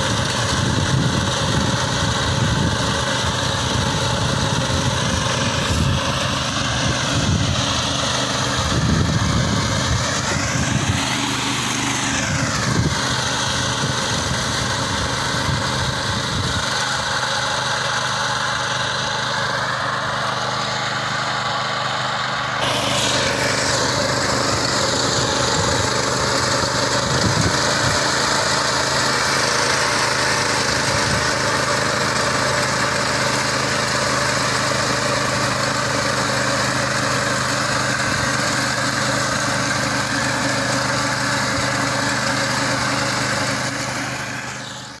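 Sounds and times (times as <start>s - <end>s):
cutter bar mowing dry stalks: 0.0s - 45.0s
small petrol engine running: 0.0s - 45.0s.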